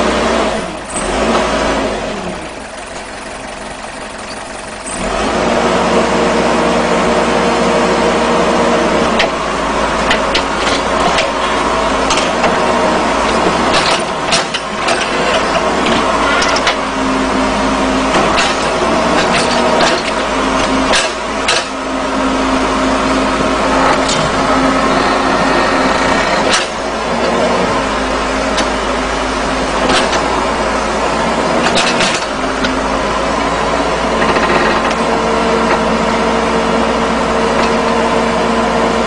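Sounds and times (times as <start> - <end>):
diesel engine under hydraulic load: 0.0 - 39.0.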